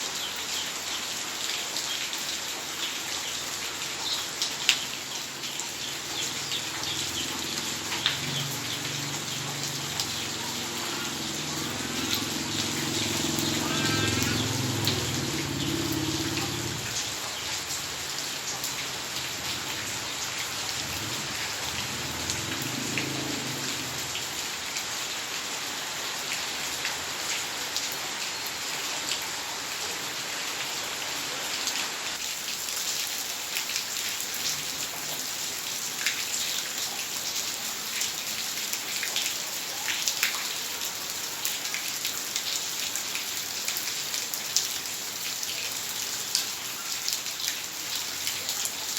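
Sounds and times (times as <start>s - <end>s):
water drops and drips: 0.0s - 25.3s, 31.6s - 48.9s
heavy rain falling: 0.0s - 48.9s.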